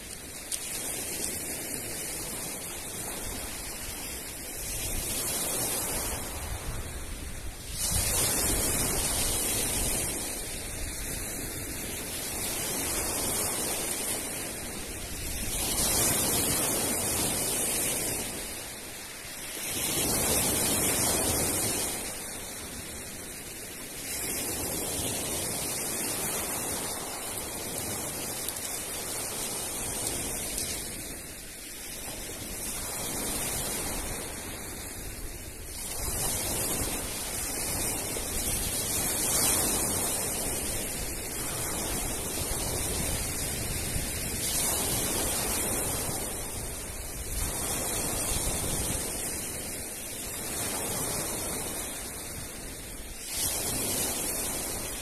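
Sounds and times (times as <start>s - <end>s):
waves breaking on pebble beach: 0.0s - 55.0s.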